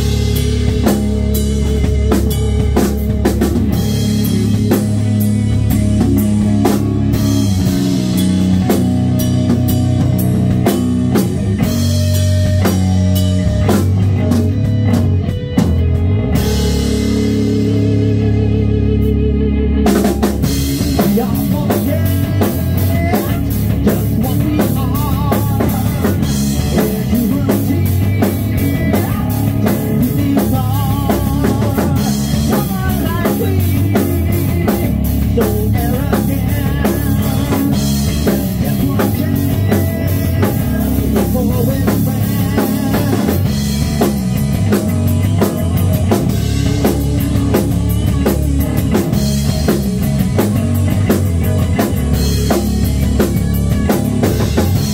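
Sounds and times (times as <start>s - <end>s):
drum kit steady beat: 0.0s - 18.3s, 19.9s - 54.9s
bass guitar: 0.0s - 54.9s
electric guitar: 0.0s - 54.9s.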